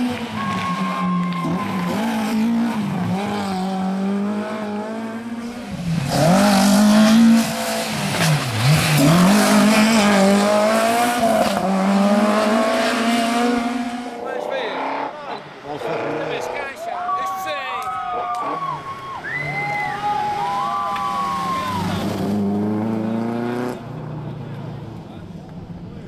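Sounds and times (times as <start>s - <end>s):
rally car engine revving: 0.0s - 16.8s, 20.3s - 25.7s.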